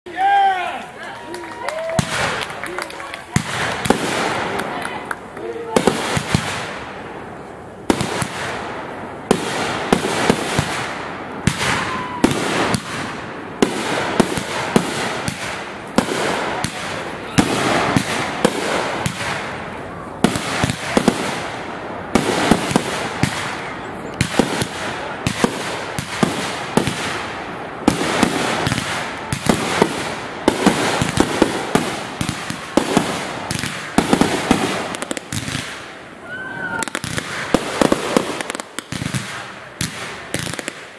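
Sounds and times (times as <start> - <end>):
fireworks bangs: 1.5 - 40.9.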